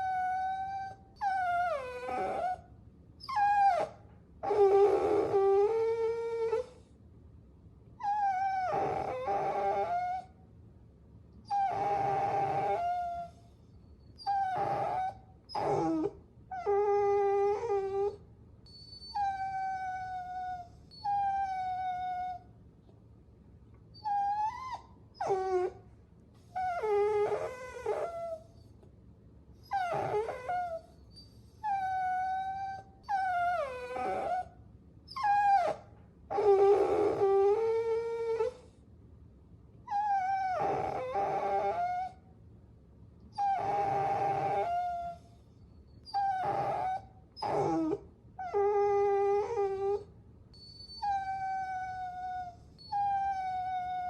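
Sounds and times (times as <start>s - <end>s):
puppies whining: 0.0s - 6.8s, 8.0s - 10.3s, 11.5s - 22.4s, 23.9s - 25.8s, 26.4s - 28.7s, 29.6s - 34.5s, 35.1s - 38.7s, 39.9s - 42.2s, 43.3s - 54.0s.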